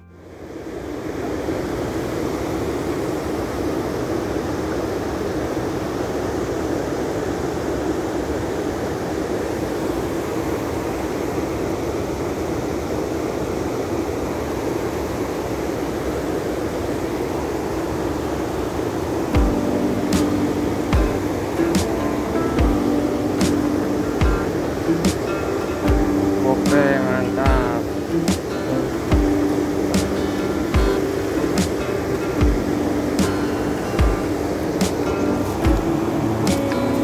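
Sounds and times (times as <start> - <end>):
river pouring over weir: 0.0 - 37.0.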